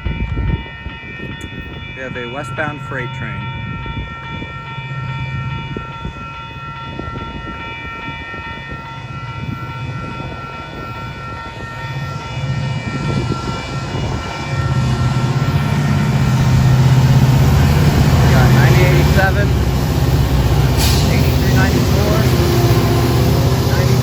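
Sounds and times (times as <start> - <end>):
diesel locomotive rumble: 0.0 - 24.0
high-pitched ringing tones: 0.0 - 24.0.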